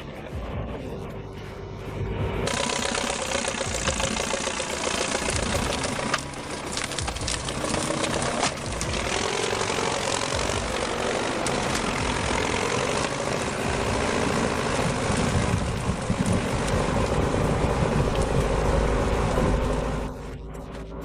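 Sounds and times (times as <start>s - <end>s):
tractor engine under load: 2.4s - 21.0s.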